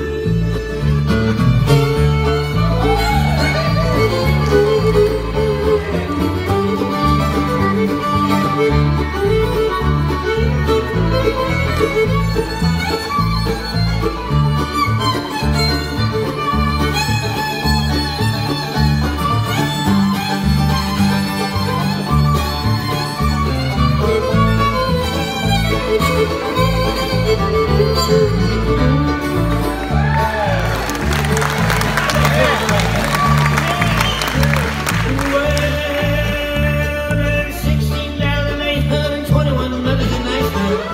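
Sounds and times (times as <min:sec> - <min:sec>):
acoustic guitar: 0:00.0 - 0:40.9
banjo: 0:00.0 - 0:40.9
fiddle lead: 0:00.0 - 0:40.9
mandolin: 0:00.0 - 0:40.9
upright bass line: 0:00.0 - 0:40.9.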